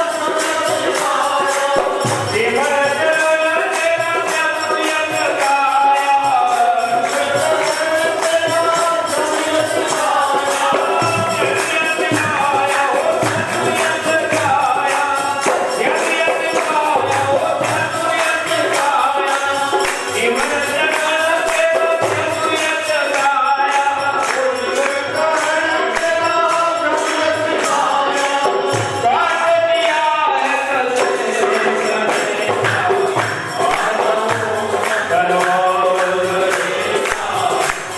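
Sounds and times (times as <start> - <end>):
drum beats: 0.0 - 37.9
jingling percussion: 0.0 - 37.9
voices singing devotional song: 0.0 - 37.9.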